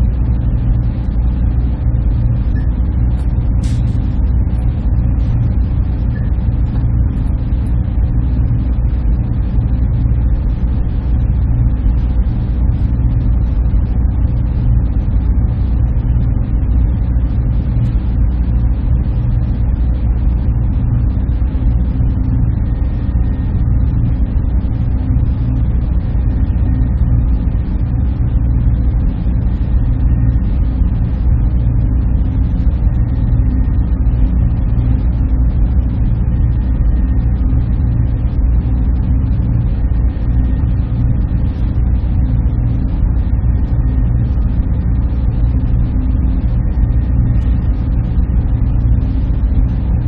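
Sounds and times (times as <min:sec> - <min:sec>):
faint steady tones: 0:00.0 - 0:49.8
server machinery hum and whir: 0:00.0 - 0:50.0.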